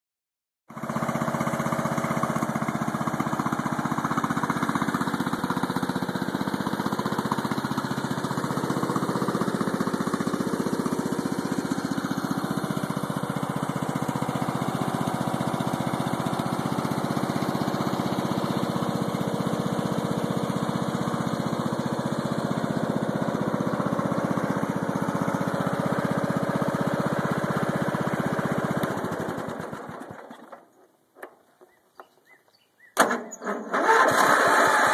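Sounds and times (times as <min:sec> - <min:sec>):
lawnmower engine idling: 0:00.7 - 0:34.9.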